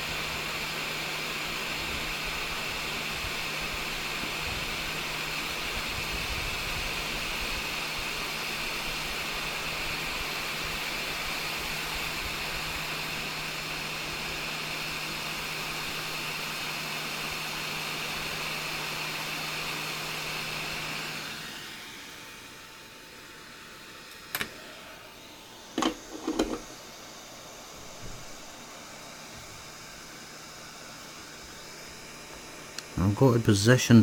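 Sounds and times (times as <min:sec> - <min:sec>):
electric fan whirring: 0:00.0 - 0:34.0.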